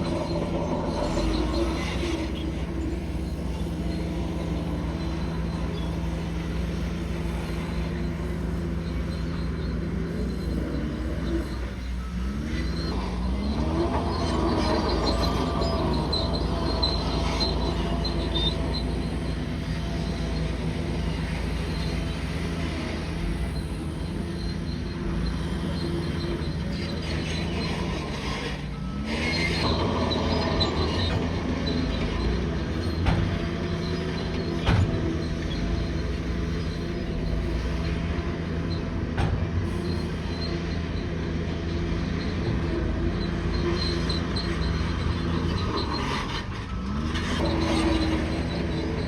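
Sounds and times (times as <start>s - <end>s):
bulldozer diesel engine under load: 0.0s - 49.0s
metallic squealing of tracks: 0.0s - 49.0s
steel tracks clanking: 0.0s - 49.0s.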